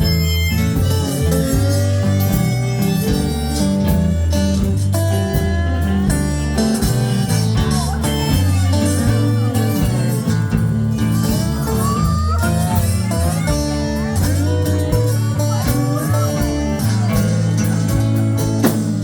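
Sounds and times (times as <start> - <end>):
bass line: 0.0 - 19.0
guitar: 0.0 - 19.0
harmonica bending notes: 0.0 - 19.0.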